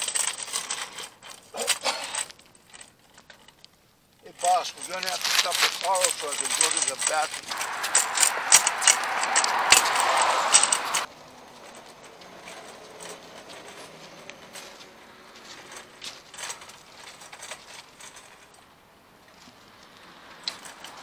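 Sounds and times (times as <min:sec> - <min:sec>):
shopping cart rattling over pavement: 0:00.0 - 0:03.6, 0:04.3 - 0:21.0.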